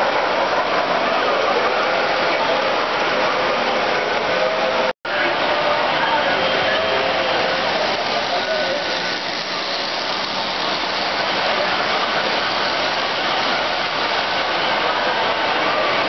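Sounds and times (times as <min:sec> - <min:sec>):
model train wheels and motors rumbling: 0:00.0 - 0:16.0.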